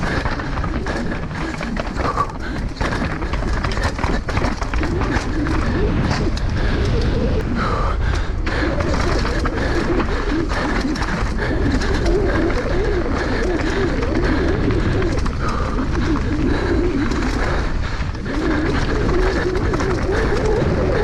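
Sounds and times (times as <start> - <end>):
bike knocking and rattling: 0.0 - 21.0
bike tyres on dirt: 0.0 - 21.0
wind buffeting microphone: 0.0 - 21.0.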